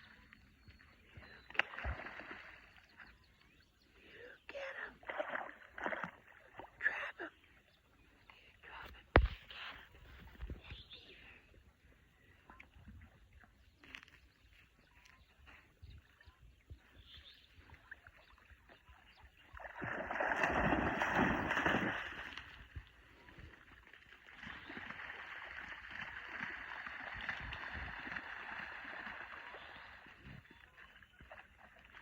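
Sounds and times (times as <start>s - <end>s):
water splashing and sloshing: 0.0s - 3.5s, 4.5s - 7.2s, 11.8s - 32.0s.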